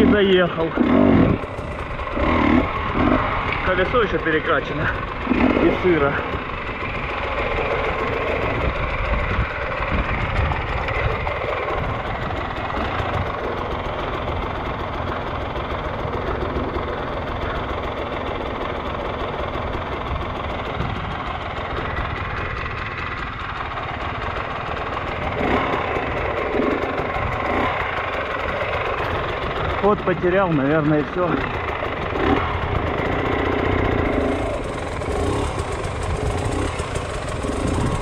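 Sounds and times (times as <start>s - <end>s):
motorcycle engine at low revs: 0.0s - 38.0s.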